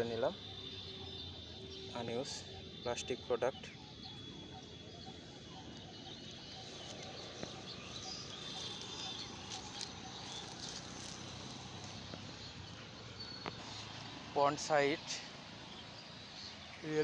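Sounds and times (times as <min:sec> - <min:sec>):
bird chirps and calls: 0:00.0 - 0:17.0.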